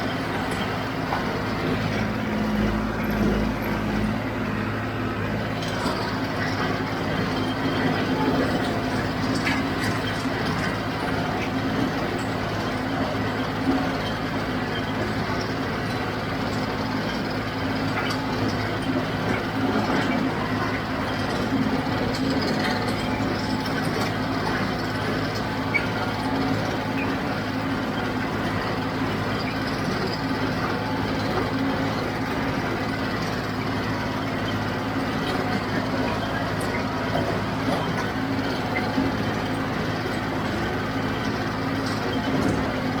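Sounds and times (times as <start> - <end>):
baler machinery working: 0.0 - 43.0
tractor diesel engine running: 0.0 - 43.0.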